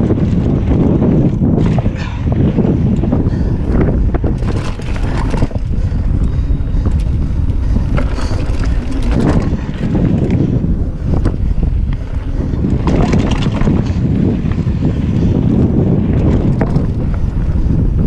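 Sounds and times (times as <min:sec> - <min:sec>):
tyres on dirt: 0:00.0 - 0:14.9
bike rattling and clicking: 0:00.0 - 0:18.0
wind buffeting microphone: 0:00.0 - 0:18.0.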